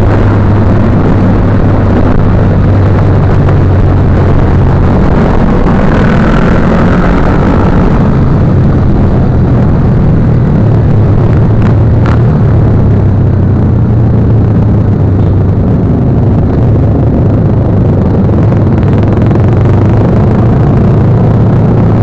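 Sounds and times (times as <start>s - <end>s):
loud rushing noise: 0.0s - 22.0s
motorcycle engine running: 0.0s - 22.0s.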